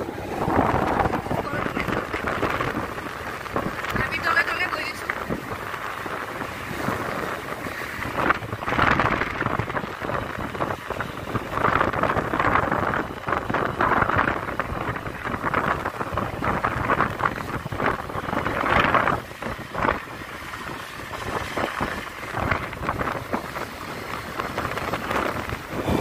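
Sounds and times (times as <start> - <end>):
road and traffic noise: 0.0 - 26.0
wind buffeting microphone: 0.0 - 26.0.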